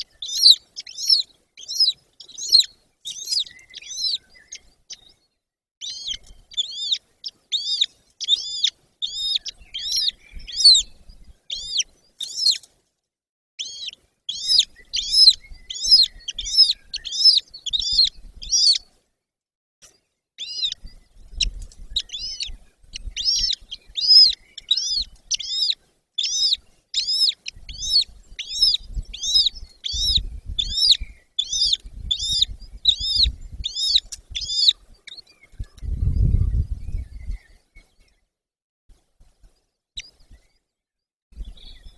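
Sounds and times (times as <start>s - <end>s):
eagle chicks chirping: 0.0s - 5.1s, 5.8s - 12.7s, 13.6s - 18.9s, 20.4s - 37.4s.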